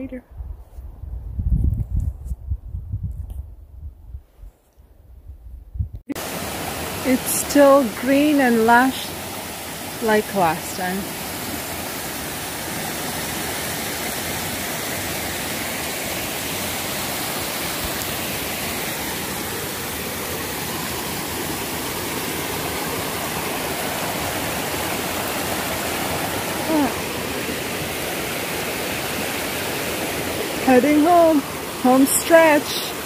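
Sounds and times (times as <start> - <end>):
creek rushing over rocks: 6.1 - 33.0.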